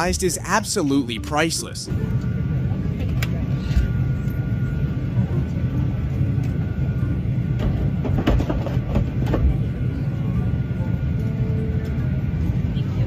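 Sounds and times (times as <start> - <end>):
airliner cabin rumble: 1.8 - 13.0.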